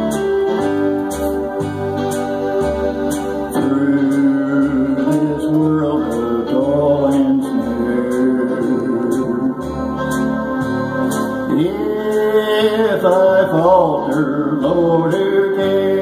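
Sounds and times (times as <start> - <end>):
bass line: 0.0 - 16.0
electronic keyboard organ chords: 0.0 - 16.0
programmed backing beat: 0.0 - 16.0.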